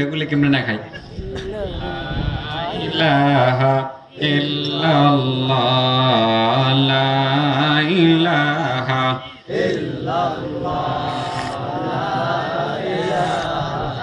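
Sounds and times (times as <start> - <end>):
man chanting over loudspeaker: 0.0 - 14.0.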